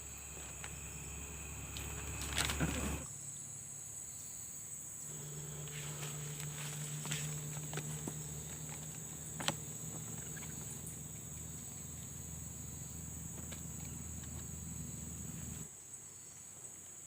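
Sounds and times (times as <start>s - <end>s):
low steady hum: 0.0s - 3.1s, 5.0s - 15.7s
crickets trilling: 0.0s - 17.0s.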